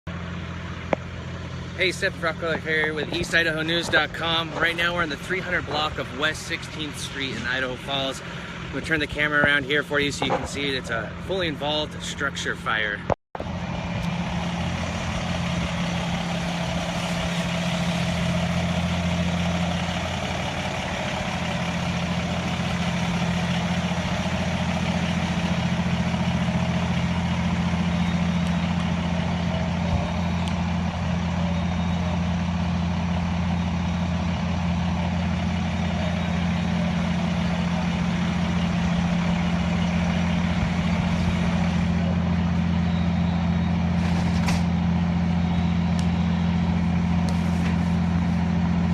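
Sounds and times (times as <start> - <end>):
diesel engine droning: 0.1 - 48.9.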